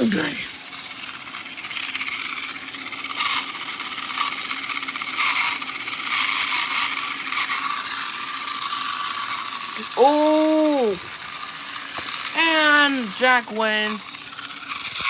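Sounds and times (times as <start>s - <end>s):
toy train motor whine: 0.0s - 15.0s
gear and wheel clatter: 0.1s - 15.0s.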